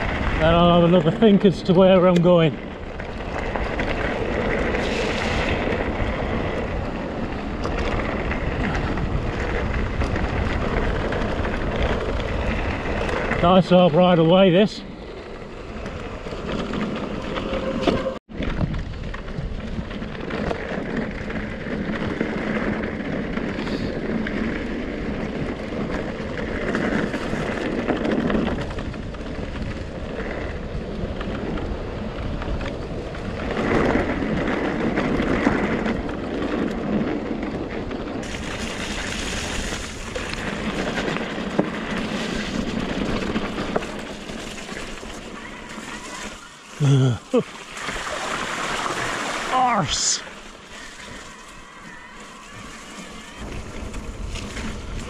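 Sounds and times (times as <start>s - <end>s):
bike tyres rumbling over stones: 0.0s - 55.0s
wind buffeting microphone: 0.0s - 55.0s.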